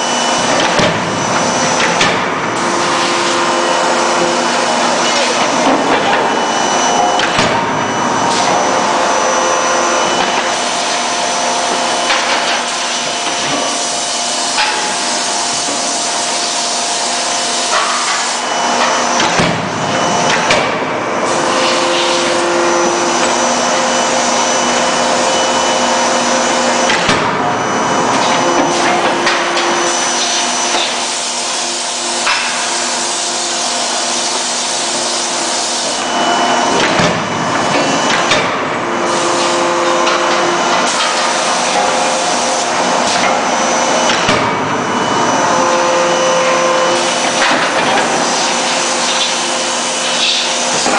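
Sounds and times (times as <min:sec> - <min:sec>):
forge machinery running: 0:00.0 - 0:50.9.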